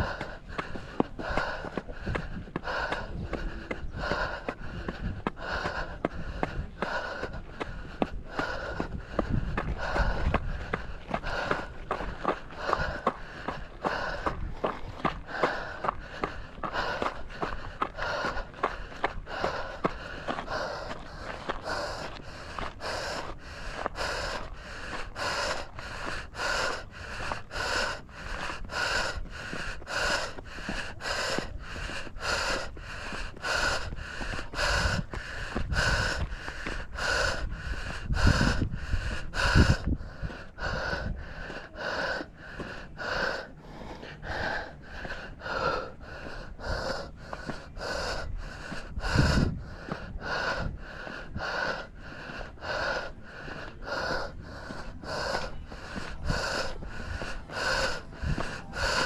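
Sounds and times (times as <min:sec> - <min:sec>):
runner breathing hard: 0:00.0 - 0:59.0.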